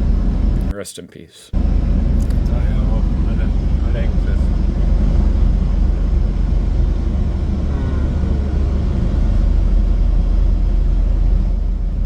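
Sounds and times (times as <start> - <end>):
wind buffeting microphone: 0.0 - 0.7, 1.6 - 12.0.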